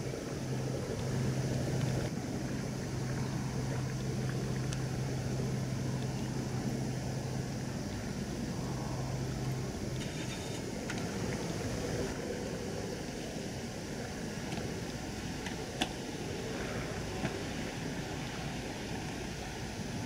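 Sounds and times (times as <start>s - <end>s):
low hum: 0.0s - 19.8s
ship engine rumble: 0.0s - 20.0s
water noise: 0.0s - 20.0s
wind: 0.0s - 20.0s.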